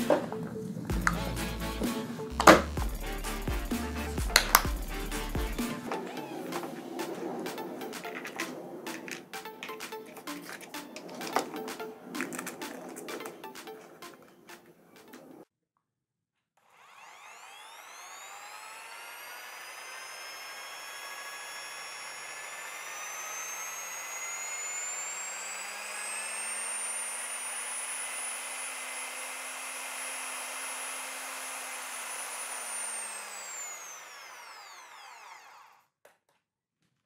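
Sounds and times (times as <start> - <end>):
electric drill motor whine: 0.0 - 14.4, 16.6 - 35.9.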